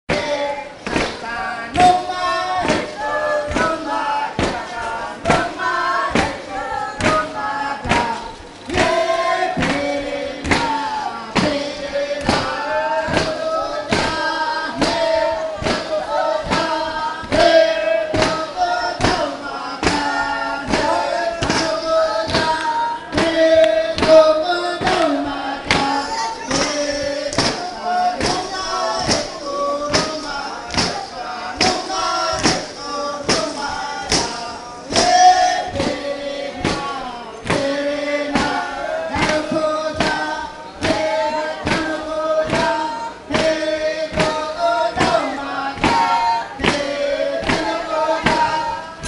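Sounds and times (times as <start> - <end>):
group singing in unison: 0.1 - 49.0.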